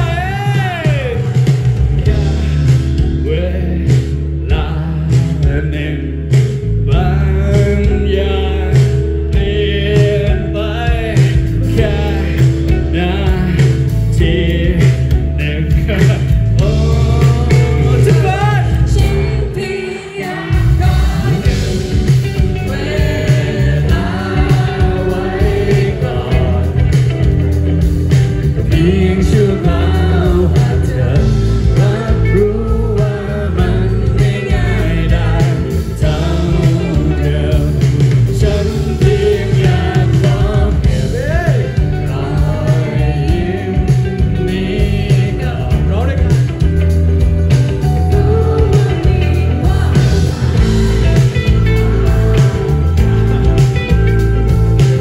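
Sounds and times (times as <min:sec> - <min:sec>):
person singing: 0:00.0 - 0:27.5, 0:28.4 - 0:46.7, 0:47.5 - 0:55.0
live band playing a song: 0:00.0 - 0:55.0.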